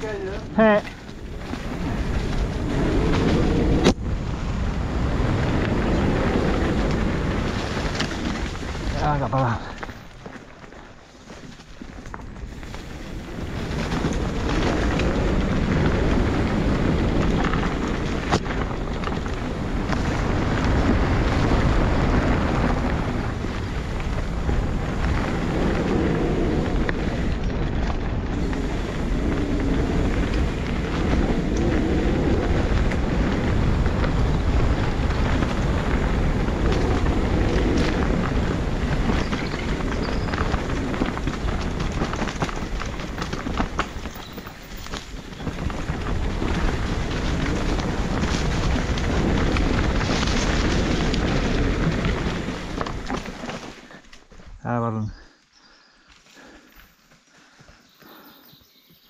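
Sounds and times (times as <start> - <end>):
wind buffeting microphone: 0.0 - 10.4, 11.6 - 56.7
bike tyres rolling on dirt: 0.0 - 59.0.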